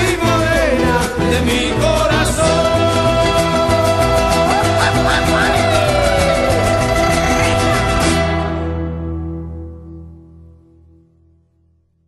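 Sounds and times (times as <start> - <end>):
upbeat latin instrumental music: 0.0 - 10.8.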